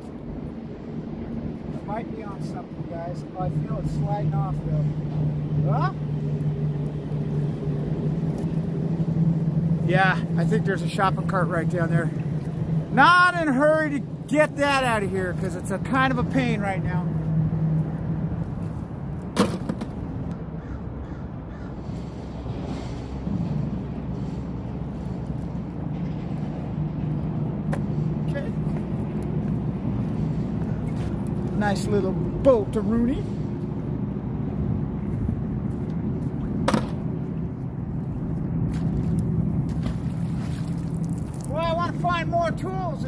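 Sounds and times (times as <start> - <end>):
motorboat engine droning: 0.0 - 43.0.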